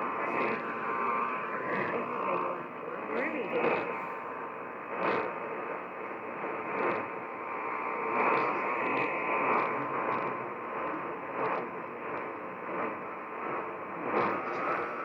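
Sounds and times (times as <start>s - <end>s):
radio hiss and static: 0.0s - 15.0s.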